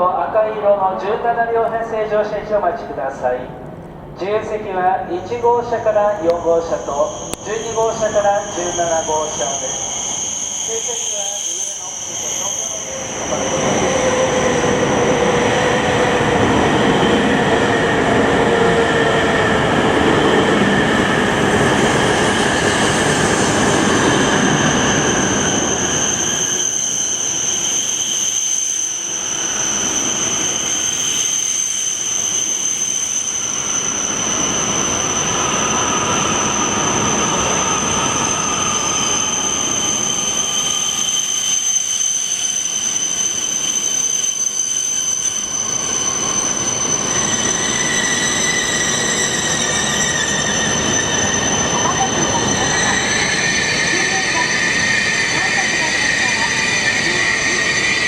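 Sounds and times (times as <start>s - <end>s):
train braking with falling whine: 6.2s - 58.0s.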